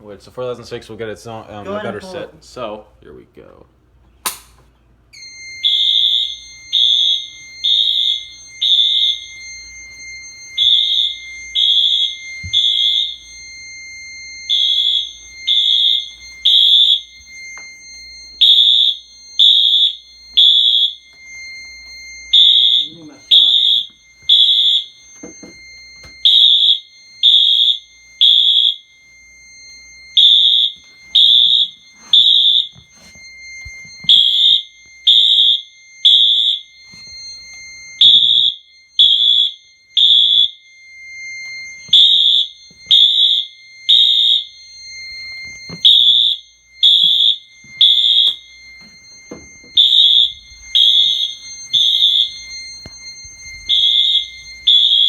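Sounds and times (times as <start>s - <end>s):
fire alarm horn beeps: 0.0s - 2.7s, 4.2s - 55.0s
steady high tone: 1.3s - 2.8s, 5.2s - 55.0s.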